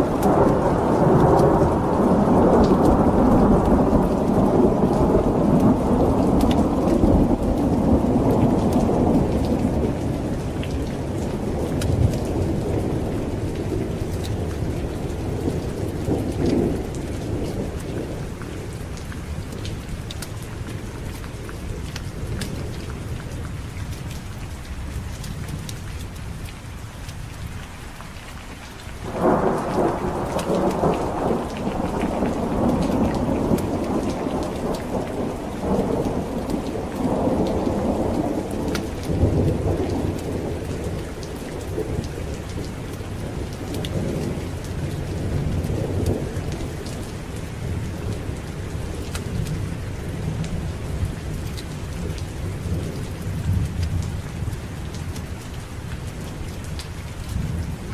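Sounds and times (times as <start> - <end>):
thunder rumbling: 0.0 - 23.1, 29.0 - 56.4
heavy rain: 0.0 - 57.9.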